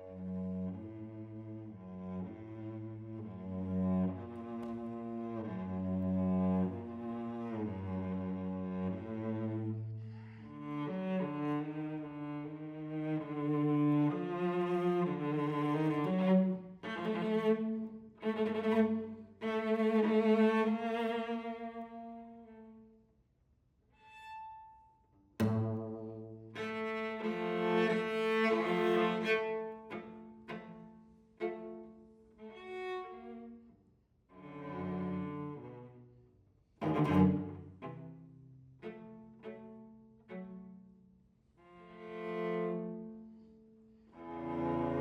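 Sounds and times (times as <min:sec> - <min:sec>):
bowed cello: 0:00.0 - 0:23.1, 0:24.0 - 0:45.0.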